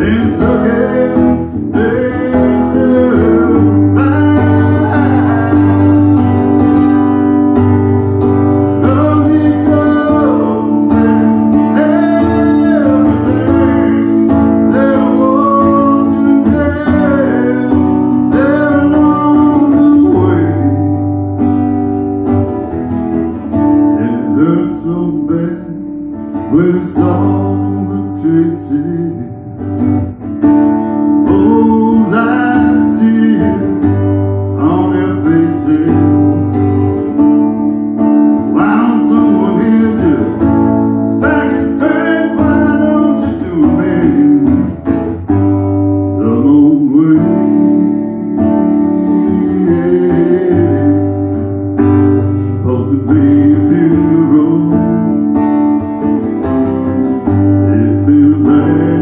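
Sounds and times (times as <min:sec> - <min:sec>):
man singing: 0:00.0 - 0:21.2, 0:23.5 - 0:29.9, 0:31.0 - 0:59.0
acoustic guitar strumming: 0:00.0 - 0:59.0.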